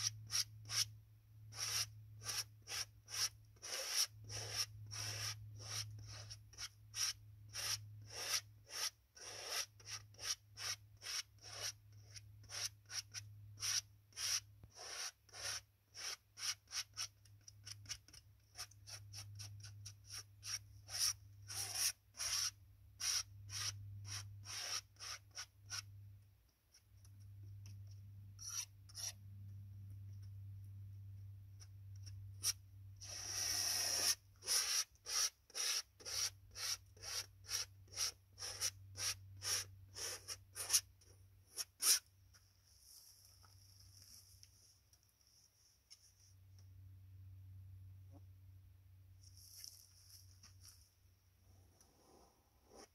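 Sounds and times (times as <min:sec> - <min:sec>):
palette knife scraping paint: 0:00.0 - 0:00.9, 0:01.5 - 0:25.9, 0:26.7 - 0:30.4, 0:31.6 - 0:44.7, 0:49.2 - 0:50.9.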